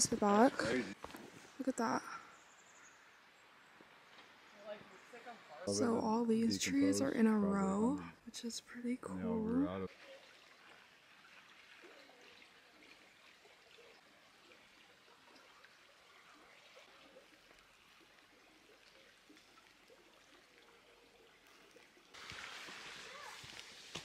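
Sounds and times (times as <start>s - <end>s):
faint creek trickling: 0.0s - 24.0s.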